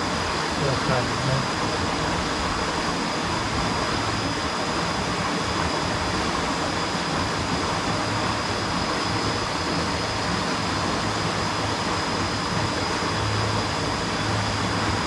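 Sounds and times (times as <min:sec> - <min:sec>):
river water rushing: 0:00.0 - 0:15.0
thin steady high tone: 0:00.0 - 0:15.0.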